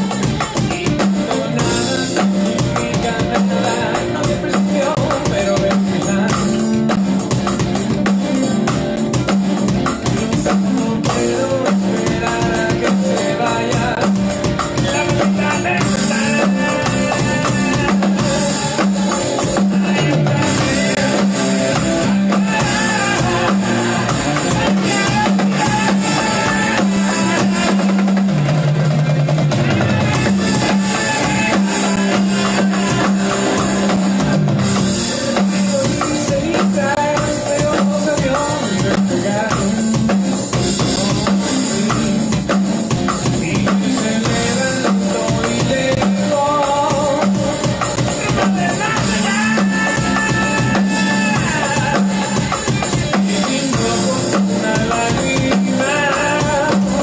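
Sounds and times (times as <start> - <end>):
alternative rock music: 0.0 - 57.0
electronic drum kit playing: 0.0 - 57.0.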